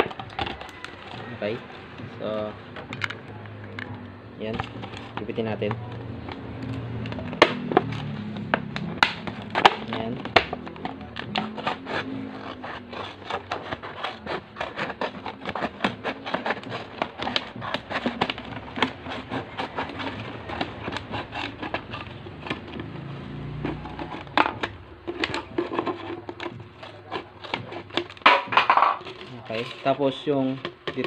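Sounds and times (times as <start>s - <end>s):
scissors snipping plastic bottle: 0.0s - 2.0s, 4.6s - 22.9s, 23.6s - 29.9s.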